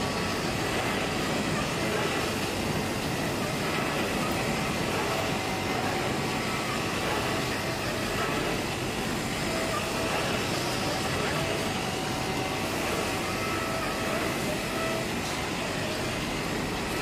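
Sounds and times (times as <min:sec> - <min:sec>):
fabric cutting machine whirring: 0:00.0 - 0:17.0.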